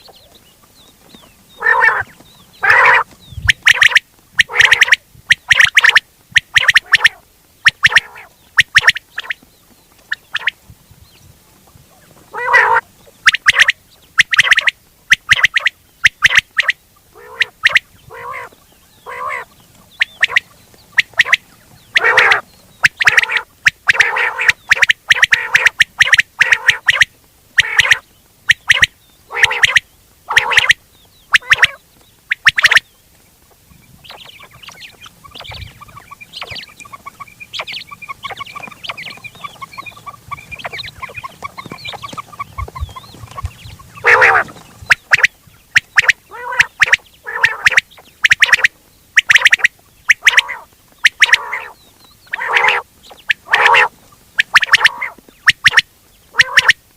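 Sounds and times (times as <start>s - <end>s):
quail calling: 0.0s - 10.7s, 11.6s - 56.9s.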